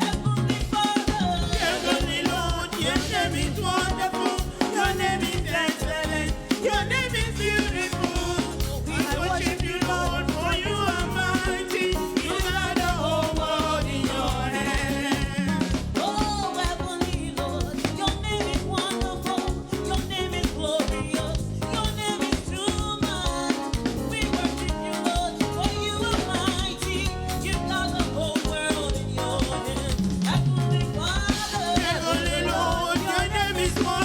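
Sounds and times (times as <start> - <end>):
voices singing: 0.0 - 19.0, 24.2 - 34.0
band with drum kit: 0.0 - 34.0.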